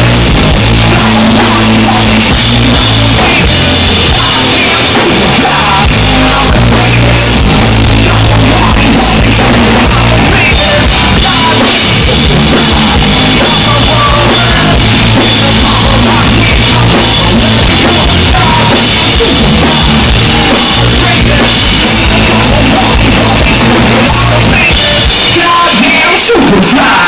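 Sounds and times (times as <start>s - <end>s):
drum kit: 0.0s - 27.0s
electric guitar: 0.0s - 27.0s
lead vocal singing: 0.0s - 27.0s.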